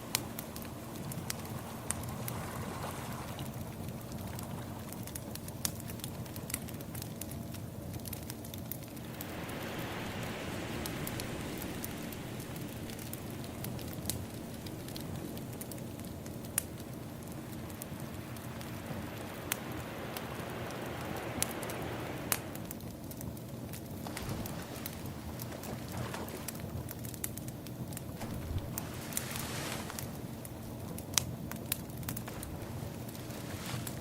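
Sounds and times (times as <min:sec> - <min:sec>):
ocean waves washing: 0:00.0 - 0:05.2, 0:08.9 - 0:23.2, 0:23.8 - 0:26.9, 0:28.2 - 0:34.0
wood fire crackling and popping: 0:00.0 - 0:34.0.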